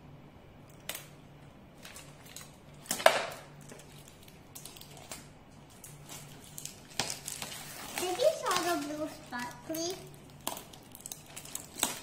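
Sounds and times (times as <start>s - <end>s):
plastic wrapping crinkling: 0.7s - 12.0s.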